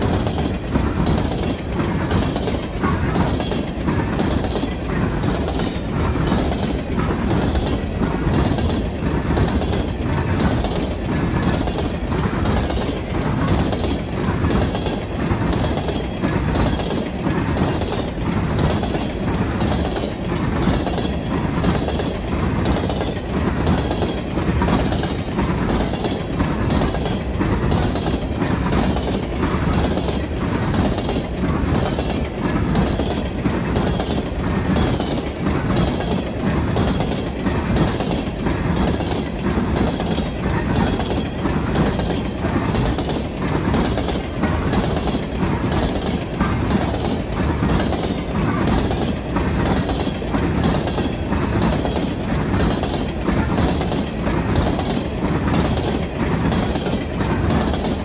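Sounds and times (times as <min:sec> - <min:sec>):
train wheels clacking over rail joints: 0:00.0 - 0:58.0.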